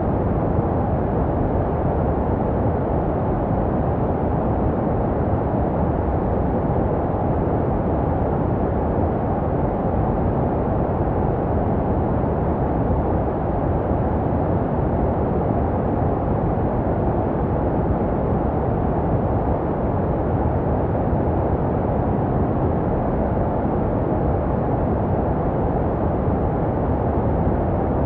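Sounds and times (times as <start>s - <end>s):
muffled white noise: 0.0s - 28.0s.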